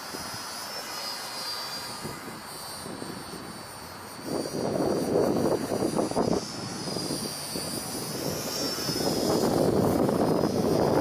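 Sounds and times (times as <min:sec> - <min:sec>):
model plane motor whine: 0:00.0 - 0:11.0
wind noise on microphone: 0:01.8 - 0:11.0.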